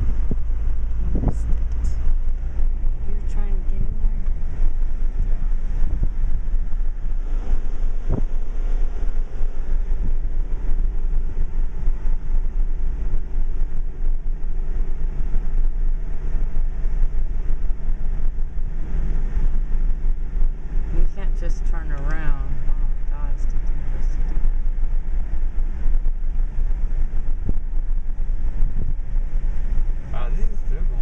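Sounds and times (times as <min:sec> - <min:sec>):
car engine and road noise: 0:00.0 - 0:31.0
wind on microphone: 0:00.0 - 0:31.0.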